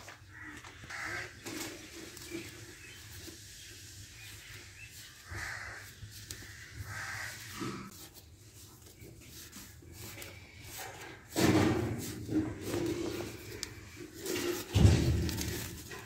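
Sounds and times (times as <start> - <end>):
hand scraping dry mud: 0.1 - 16.0.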